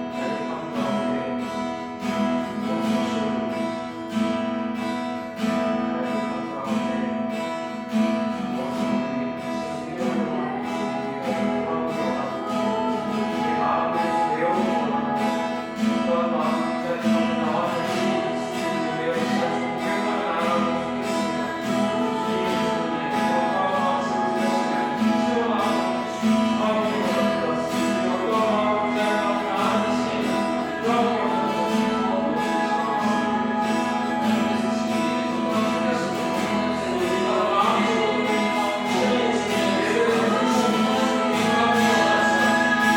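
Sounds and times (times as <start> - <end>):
person singing: 0.0 - 4.4, 5.3 - 42.9
acoustic guitar strumming: 0.0 - 42.9.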